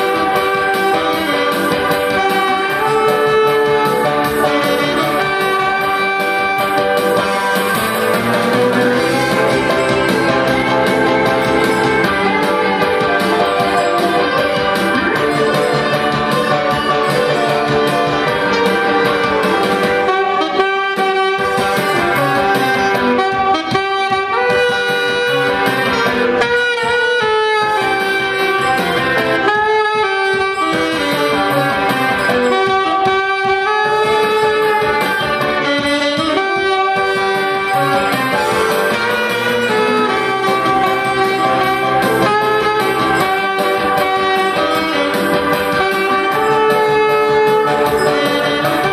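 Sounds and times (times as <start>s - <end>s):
accompaniment with steady beat: 0.0s - 48.9s
saxophone melody: 0.0s - 48.9s.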